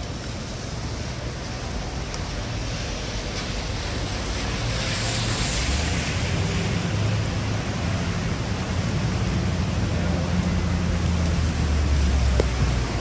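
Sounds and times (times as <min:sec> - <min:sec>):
heavy rain: 0:00.0 - 0:13.0
low engine hum: 0:00.0 - 0:13.0
wet-street traffic: 0:00.0 - 0:13.0.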